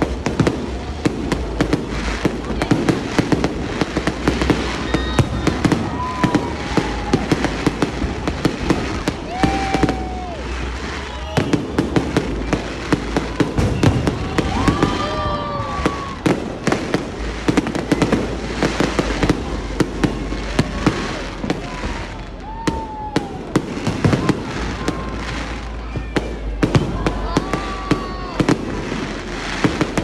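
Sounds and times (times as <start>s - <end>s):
fireworks bangs and crackling: 0.0s - 30.0s
fireworks whistling: 0.0s - 30.0s.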